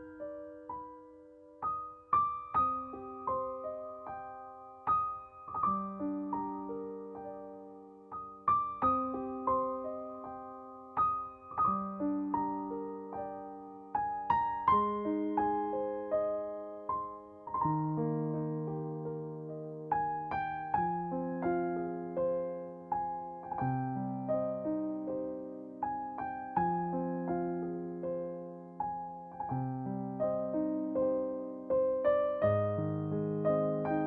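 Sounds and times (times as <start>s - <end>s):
gentle solo piano: 0.0s - 34.0s.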